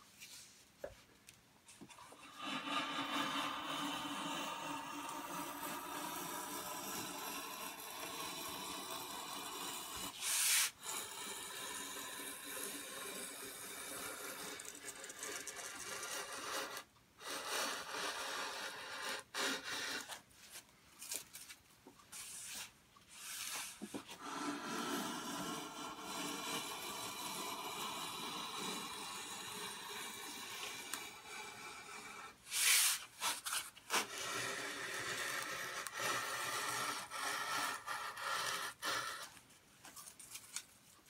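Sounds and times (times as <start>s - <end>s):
hand plane shaving wood: 2.0s - 20.2s, 23.3s - 39.4s.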